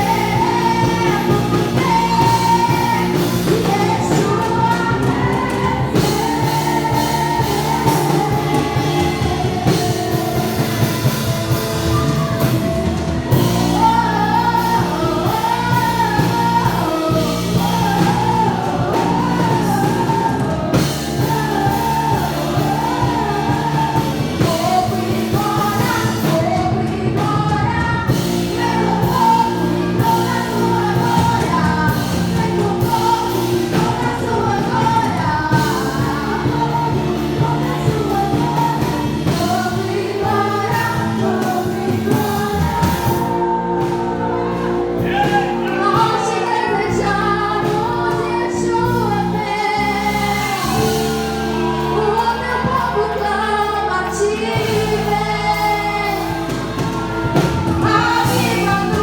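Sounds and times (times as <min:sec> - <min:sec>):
worship singing with band: 0:00.0 - 0:59.0.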